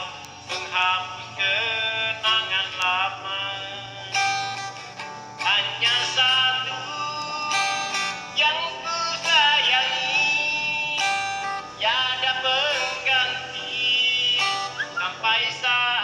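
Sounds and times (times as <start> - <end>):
person singing: 0.0 - 4.8, 5.4 - 16.0
guitar: 0.0 - 16.0.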